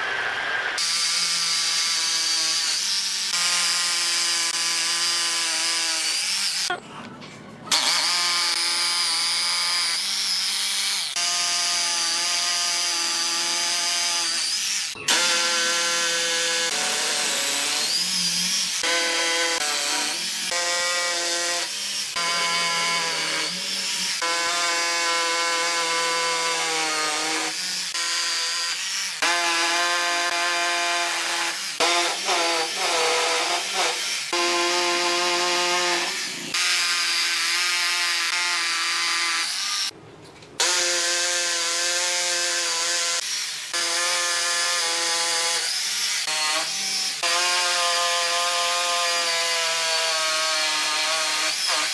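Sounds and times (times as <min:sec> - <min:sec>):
hammer drill boring into masonry: 0:07.7 - 0:39.9, 0:40.6 - 0:51.9.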